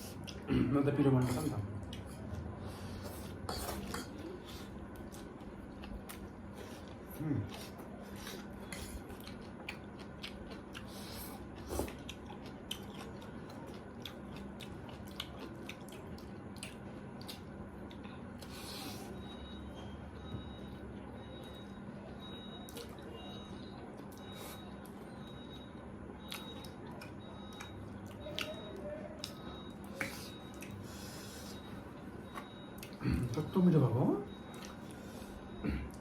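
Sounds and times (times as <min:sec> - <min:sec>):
chewing and mouth noises: 0:00.0 - 0:00.5, 0:01.2 - 0:19.6, 0:20.7 - 0:33.5, 0:34.3 - 0:36.0
low steady hum: 0:00.0 - 0:36.0.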